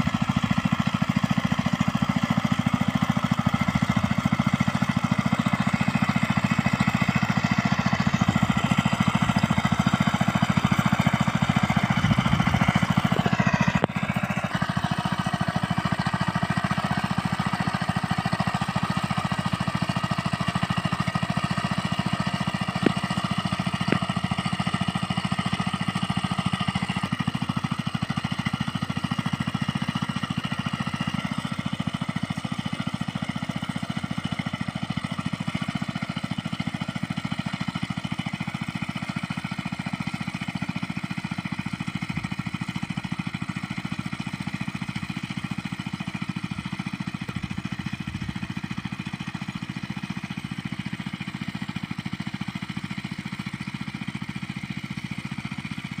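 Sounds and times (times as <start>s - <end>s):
small tiller engine running: 0.0s - 56.0s.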